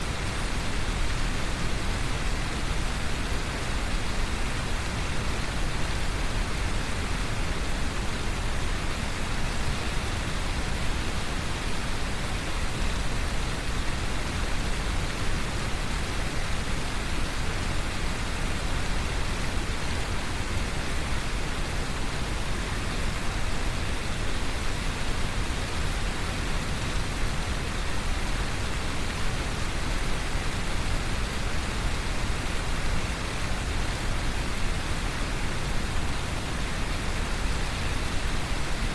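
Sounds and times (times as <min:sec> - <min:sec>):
brown noise: 0:00.0 - 0:38.9
heavy rain: 0:00.0 - 0:38.9.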